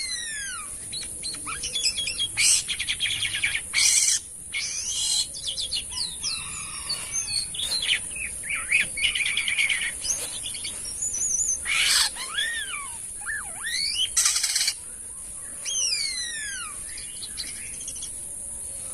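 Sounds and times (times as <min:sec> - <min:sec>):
harsh rasping bird calls: 0:00.0 - 0:18.2
starling singing: 0:01.4 - 0:14.8, 0:15.6 - 0:18.1.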